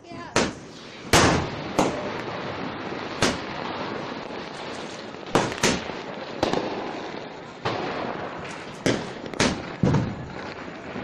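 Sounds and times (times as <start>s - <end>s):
fireworks exploding: 0.0s - 11.0s
steady background hiss: 0.0s - 11.0s.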